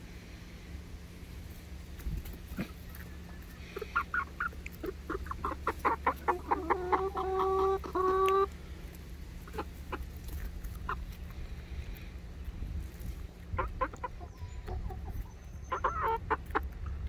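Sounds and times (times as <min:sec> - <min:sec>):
hens clucking: 0:01.9 - 0:17.0.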